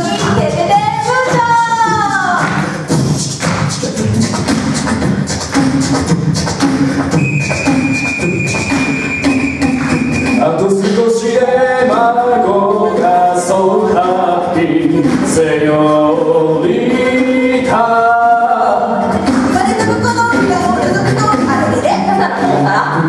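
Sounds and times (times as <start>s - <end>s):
a cappella group singing harmony: 1.1s - 23.0s.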